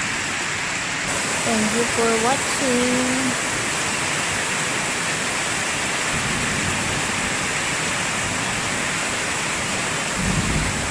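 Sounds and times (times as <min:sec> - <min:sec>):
heavy rain pouring: 0:00.0 - 0:10.9.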